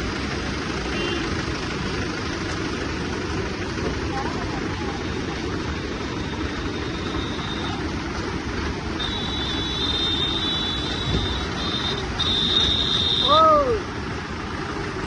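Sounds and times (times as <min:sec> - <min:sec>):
vehicle running: 0:00.0 - 0:15.0.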